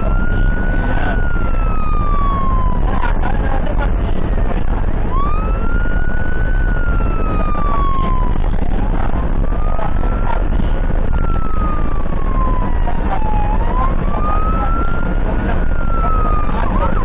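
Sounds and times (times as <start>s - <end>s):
ambulance siren wailing: 0.0s - 17.0s
road and engine noise: 0.0s - 17.0s.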